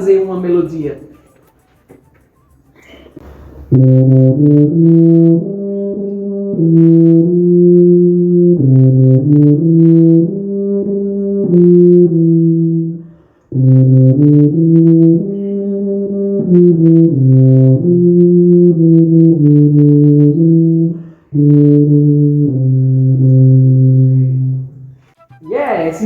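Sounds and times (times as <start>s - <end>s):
tuba playing melody: 3.6s - 26.0s.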